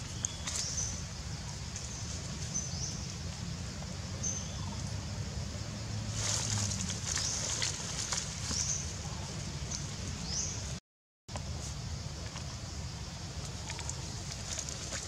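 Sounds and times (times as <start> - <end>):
rustle of leaves and twigs: 0.0 - 4.9, 5.8 - 10.8, 11.4 - 15.0.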